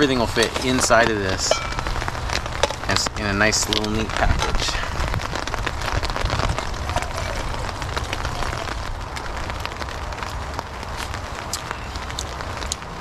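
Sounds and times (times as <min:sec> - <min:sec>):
rain on a tarp: 0:00.0 - 0:13.0.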